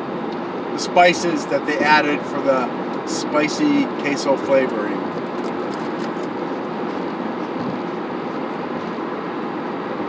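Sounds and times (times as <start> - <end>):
rushing background noise: 0.0 - 10.0.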